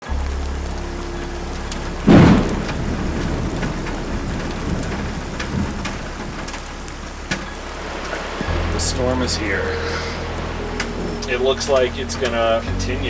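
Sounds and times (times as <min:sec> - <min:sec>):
heavy rain: 0:00.0 - 0:13.0
raindrops hitting: 0:00.0 - 0:13.0
thunder clap: 0:00.1 - 0:12.8.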